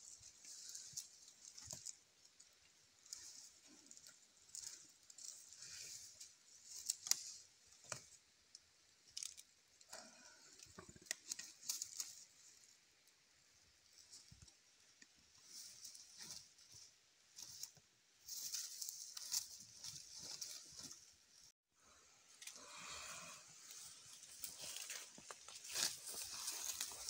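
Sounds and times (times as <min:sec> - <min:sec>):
faint clicks and rustles: 0:00.0 - 0:21.5, 0:23.5 - 0:27.0.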